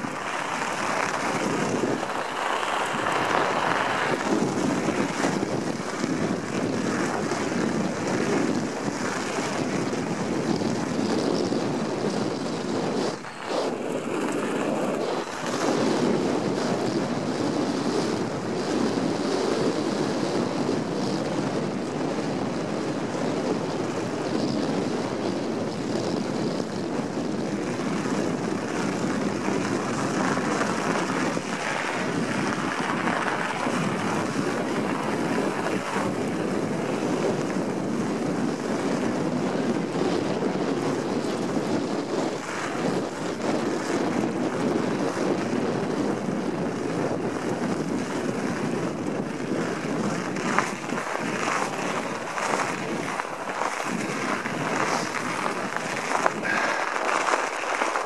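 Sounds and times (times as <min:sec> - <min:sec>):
tyres rumbling on packed snow: 0:00.0 - 0:58.0
wind buffeting microphone: 0:00.0 - 0:58.0.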